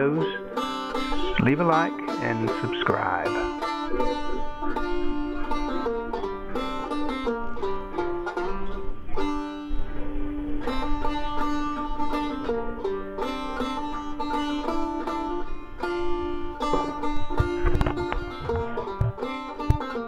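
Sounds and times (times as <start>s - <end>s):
banjo picked melody: 0.0s - 20.0s.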